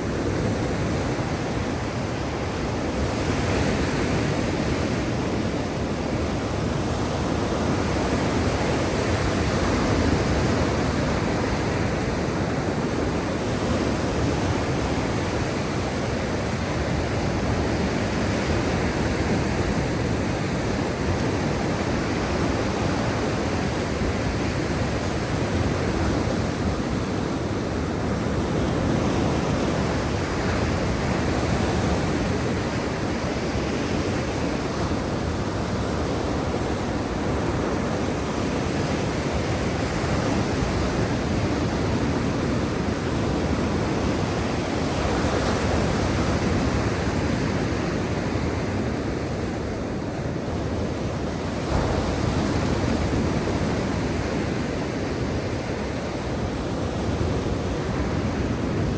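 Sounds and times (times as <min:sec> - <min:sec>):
sea surf on shore: 0:00.0 - 0:58.9.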